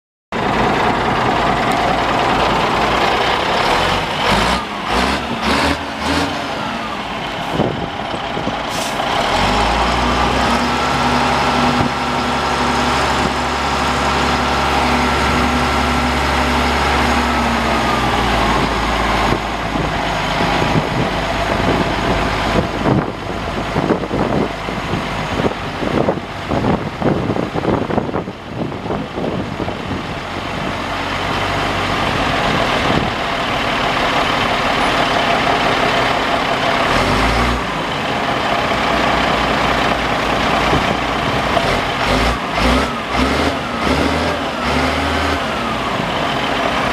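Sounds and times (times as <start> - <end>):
diesel engine running and revving: 0.3 - 46.9.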